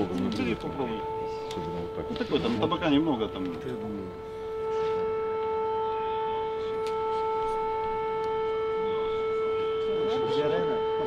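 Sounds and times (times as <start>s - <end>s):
air-raid siren: 0.0s - 11.0s.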